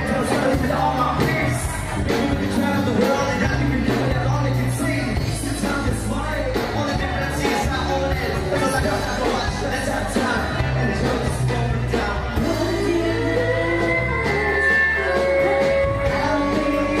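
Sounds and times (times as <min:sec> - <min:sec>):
drums: 0:00.0 - 0:17.0
electric guitars: 0:00.0 - 0:17.0
singers on microphones: 0:00.0 - 0:17.0.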